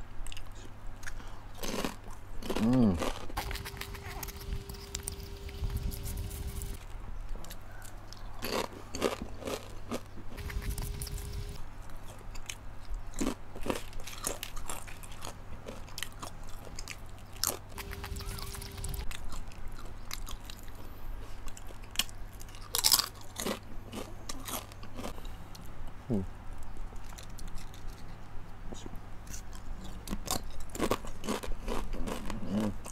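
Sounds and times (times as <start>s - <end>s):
chewing crispy chips: 0.2s - 25.8s, 26.5s - 32.9s.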